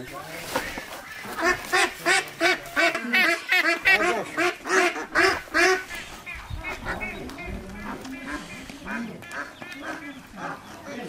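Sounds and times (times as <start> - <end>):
waterfowl honking: 0.4 - 11.0.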